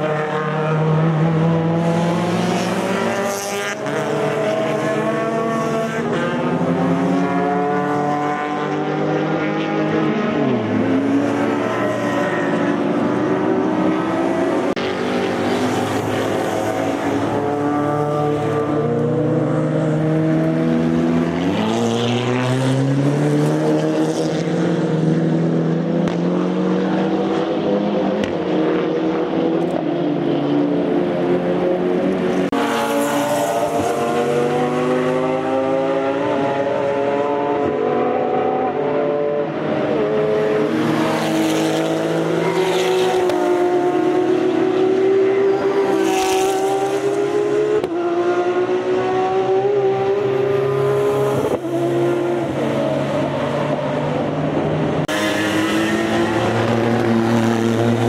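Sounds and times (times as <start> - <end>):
engines revving: 0.0 - 58.0
race cars passing: 0.0 - 58.0.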